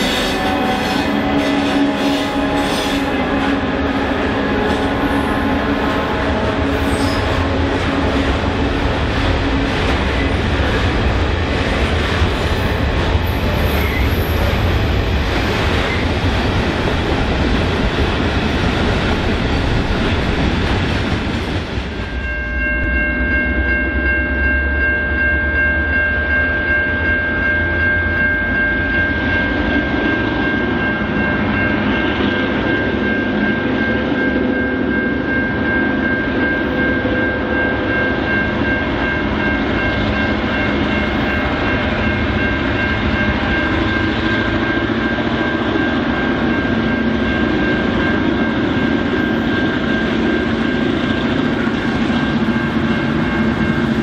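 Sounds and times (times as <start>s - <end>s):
diesel locomotive engine whining: 0.0s - 54.0s.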